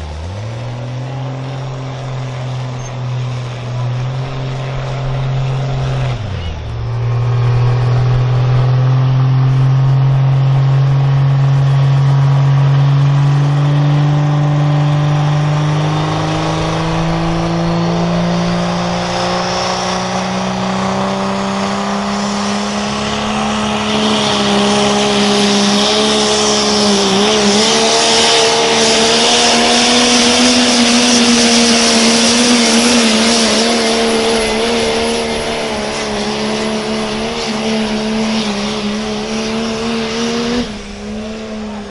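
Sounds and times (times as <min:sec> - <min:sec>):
engine under full load: 0:00.0 - 0:41.9.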